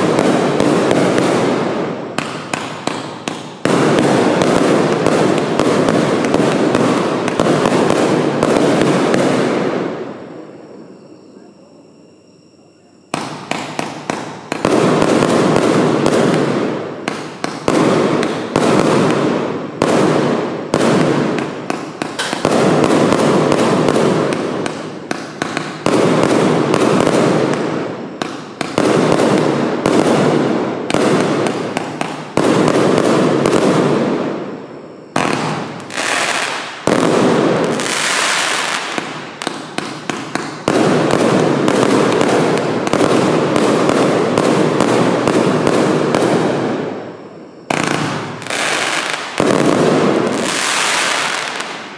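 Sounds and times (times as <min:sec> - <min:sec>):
fireworks firing rapid salvos: 0:00.0 - 0:10.1, 0:13.2 - 0:34.6, 0:35.2 - 0:51.9.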